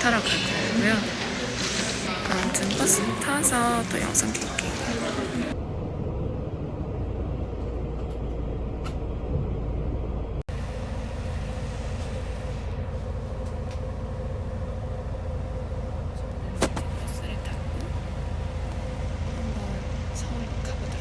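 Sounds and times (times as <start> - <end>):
bus rumbling inside: 0.0 - 21.0.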